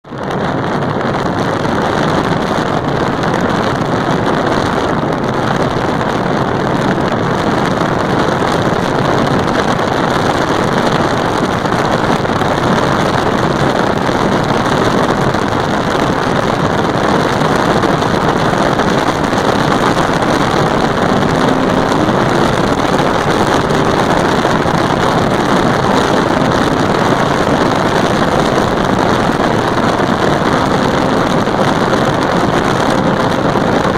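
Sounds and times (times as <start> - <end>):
wind rushing on microphone: 0.0 - 33.9
motorcycle engine running: 1.7 - 33.9.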